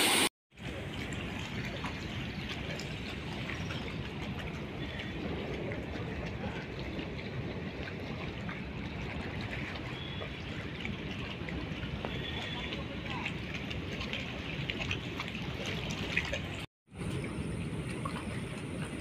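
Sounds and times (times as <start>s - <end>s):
water rushing in a canal: 0.0s - 19.0s.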